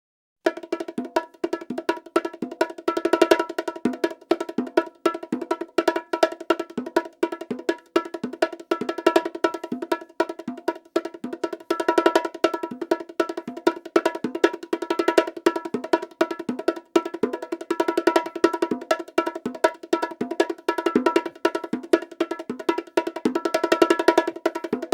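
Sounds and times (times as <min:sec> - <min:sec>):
bongos played by hand: 0:00.4 - 0:24.9.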